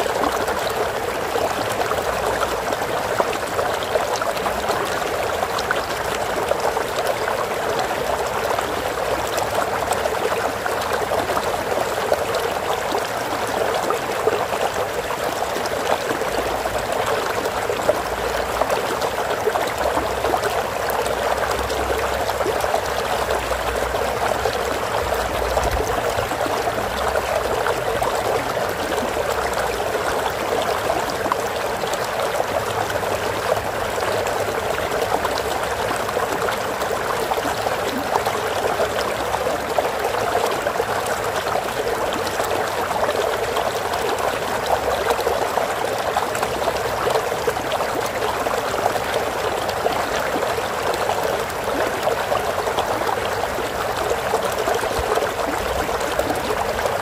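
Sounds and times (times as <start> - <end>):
water rushing in a stream: 0.0 - 57.0.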